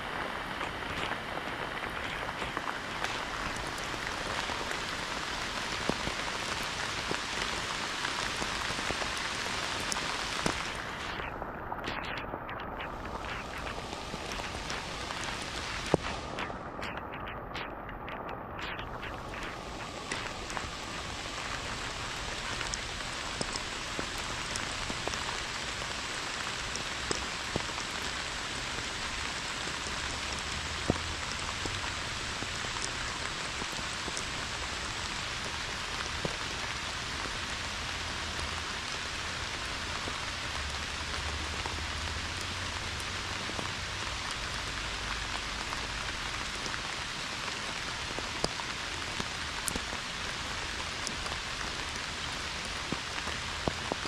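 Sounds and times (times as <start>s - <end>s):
pouring rain: 0.0s - 54.0s.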